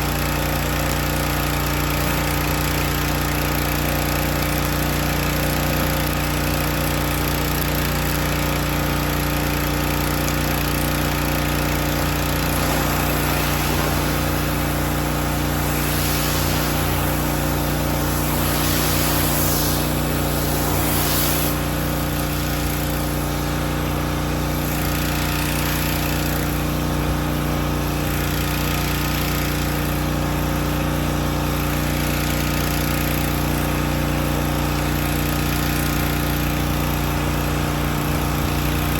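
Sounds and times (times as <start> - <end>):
pressure washer engine running: 0.0 - 38.9
spray hissing against concrete: 0.0 - 38.9.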